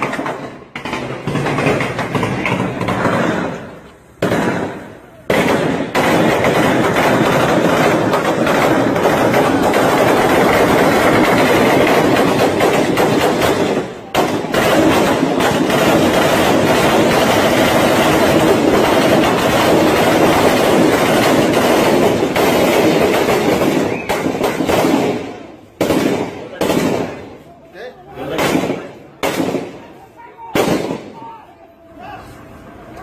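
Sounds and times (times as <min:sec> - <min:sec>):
automatic gunfire: 0:00.0 - 0:27.2.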